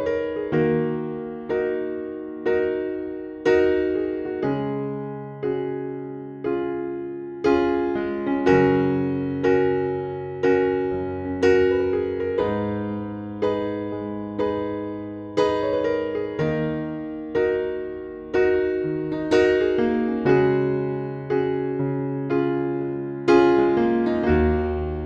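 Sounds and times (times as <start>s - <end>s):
piano playing calm chords: 0.0s - 25.0s.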